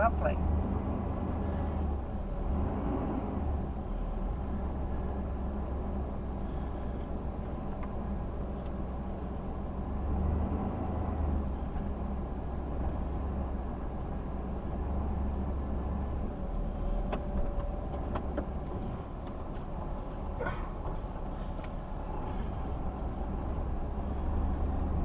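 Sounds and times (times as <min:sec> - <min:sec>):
low engine and road rumble: 0:00.0 - 0:25.0.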